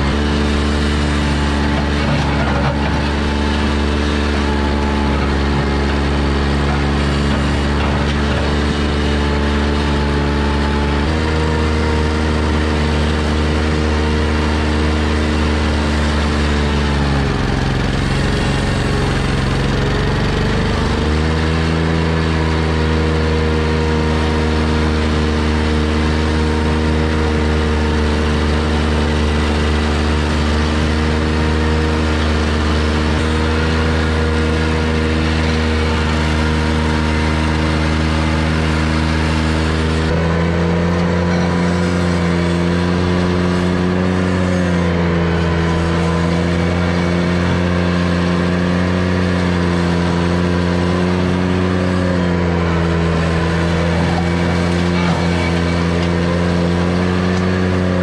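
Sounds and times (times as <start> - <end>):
mower deck cutting grass: 0.0 - 58.0
mower engine running: 0.0 - 58.0.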